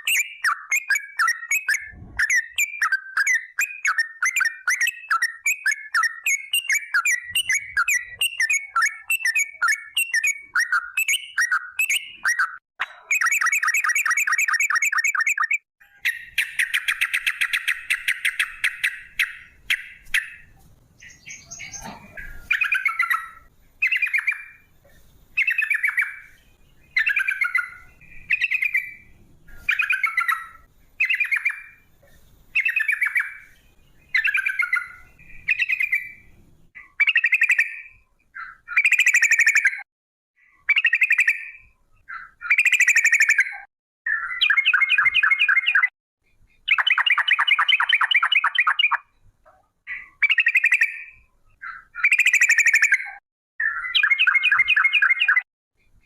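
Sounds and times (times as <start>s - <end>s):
bird singing trills: 0.0s - 56.0s.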